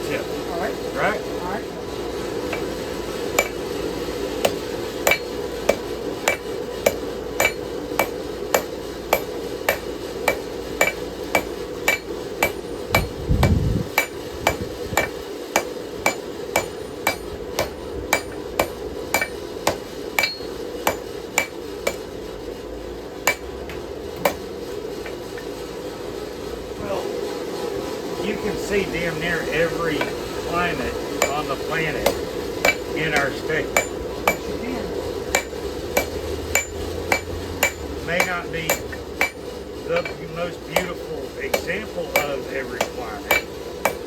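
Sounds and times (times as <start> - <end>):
hammer striking steel on anvil: 2.3 - 22.2, 23.2 - 25.6, 29.4 - 44.0.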